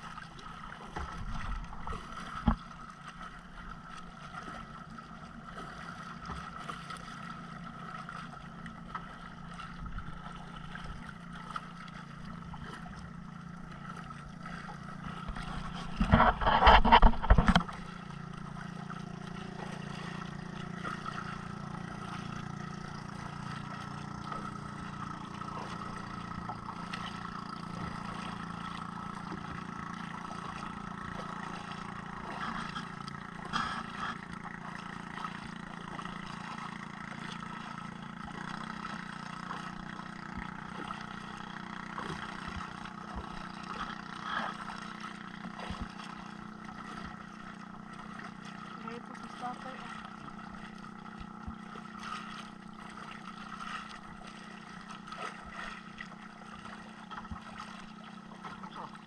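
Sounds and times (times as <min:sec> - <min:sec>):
motorboat engine drone: 0:00.0 - 0:59.0
water rushing along hull: 0:00.0 - 0:59.0.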